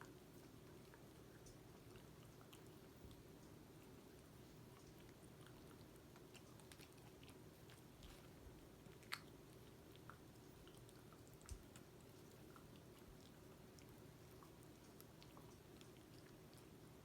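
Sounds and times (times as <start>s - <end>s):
dog chewing with crunching clicks: 0.0s - 17.0s.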